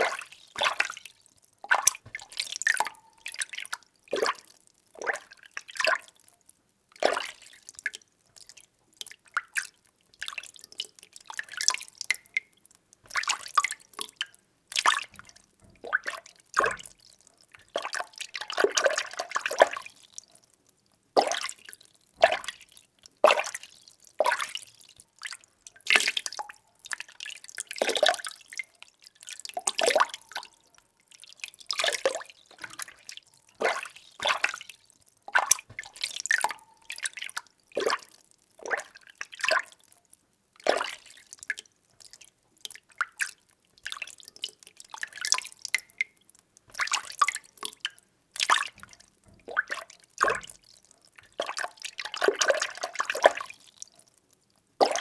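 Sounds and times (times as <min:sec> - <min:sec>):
water sloshing in a container: 0:00.0 - 0:06.2, 0:06.9 - 0:20.4, 0:21.1 - 0:39.9, 0:40.6 - 0:54.2.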